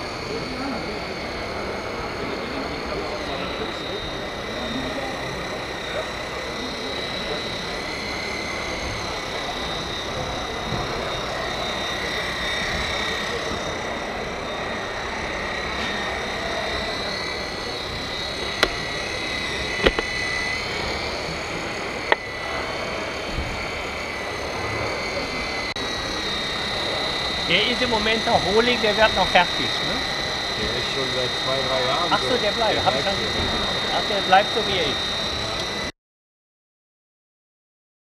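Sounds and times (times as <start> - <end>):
hydraulic drive whining: 0.0 - 35.9.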